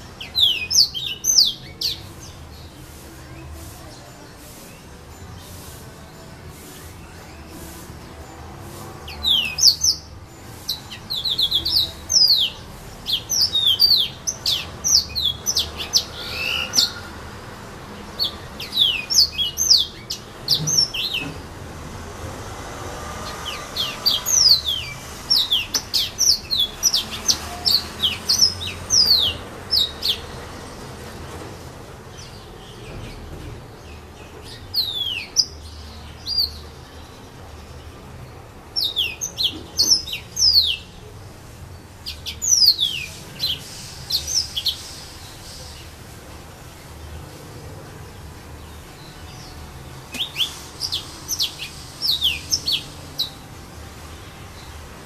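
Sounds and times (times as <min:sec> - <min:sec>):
canary singing: 0:00.0 - 0:46.1, 0:46.7 - 0:55.0.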